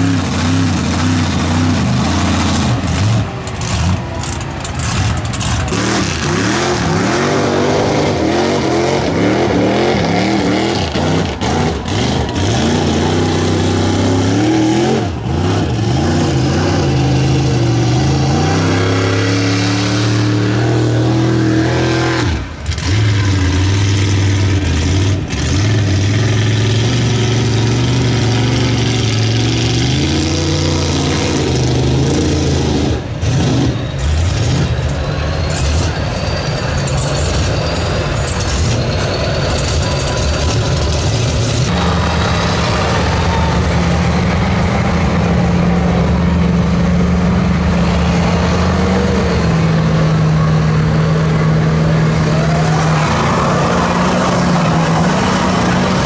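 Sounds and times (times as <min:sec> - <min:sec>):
truck engine revving: 0:00.0 - 0:56.0
tyres churning through mud: 0:00.0 - 0:56.0.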